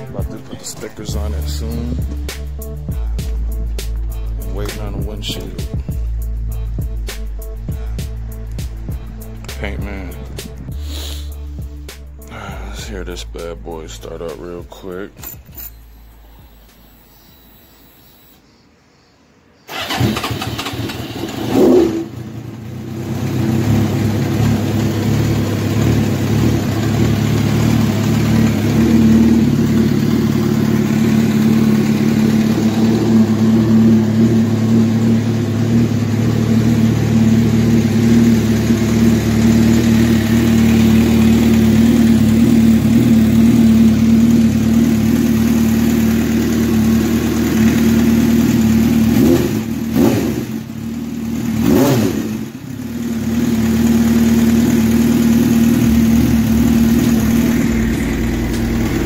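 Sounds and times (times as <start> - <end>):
motorcycle engine idling and revving: 0.0 - 18.3, 19.7 - 59.0.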